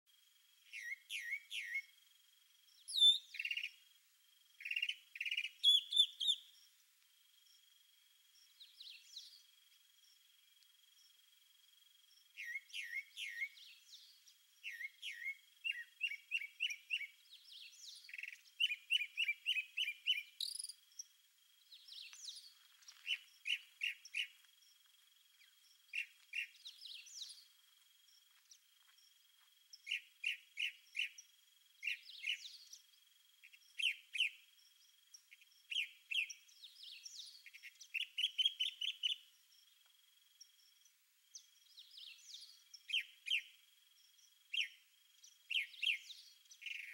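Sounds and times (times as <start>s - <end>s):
wild birds chirping: 0.1s - 46.9s.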